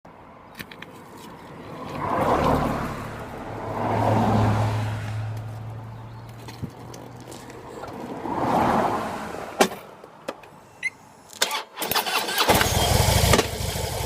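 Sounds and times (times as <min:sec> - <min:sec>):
brake rushing noise: 0:00.6 - 0:13.9.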